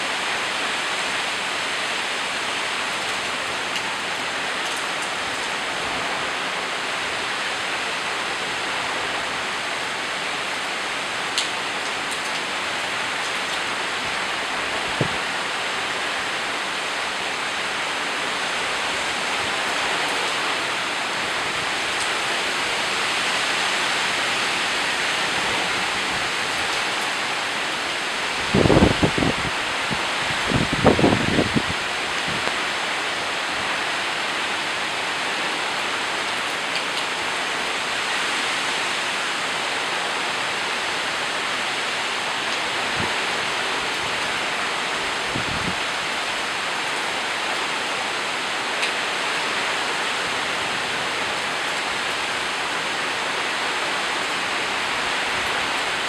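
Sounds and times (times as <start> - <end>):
gusting wind: 0.0 - 56.0
heavy rain: 0.0 - 56.0.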